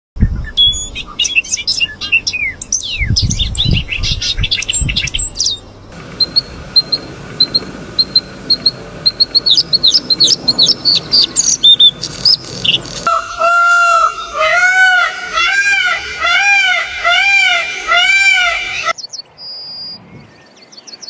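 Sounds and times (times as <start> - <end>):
songbirds chirping and twittering: 0.2 - 21.0.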